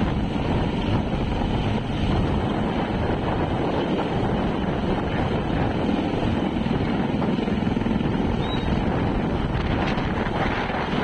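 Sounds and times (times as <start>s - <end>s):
helicopter rotor beating: 0.0s - 11.0s
wind buffeting microphone: 0.0s - 11.0s.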